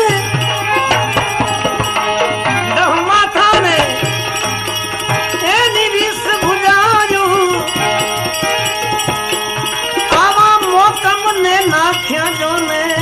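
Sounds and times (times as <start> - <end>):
drum strokes: 0.0 - 11.1
jingling bells: 0.0 - 13.0.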